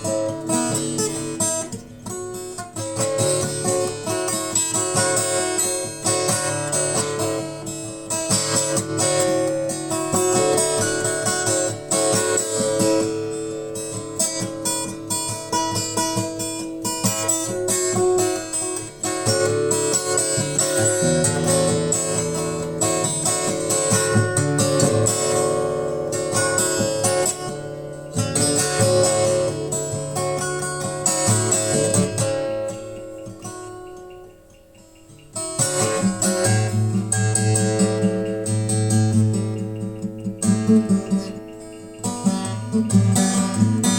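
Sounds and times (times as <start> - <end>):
acoustic guitar music: 0.0 - 43.9.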